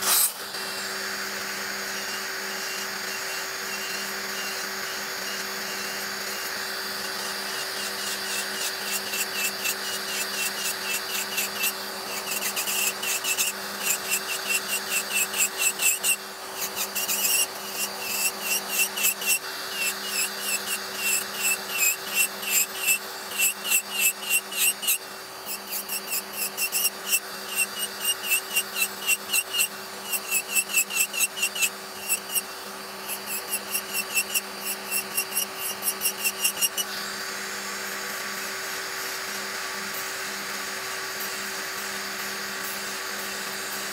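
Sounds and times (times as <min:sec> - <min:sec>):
drill bit grinding: 0:00.0 - 0:37.5
nail drill motor humming: 0:00.0 - 0:37.5.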